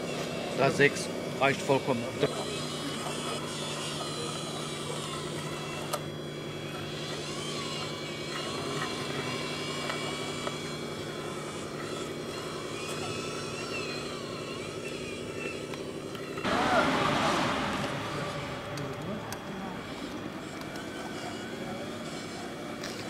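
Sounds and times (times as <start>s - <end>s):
model truck motor hum and whine: 0.0s - 23.0s.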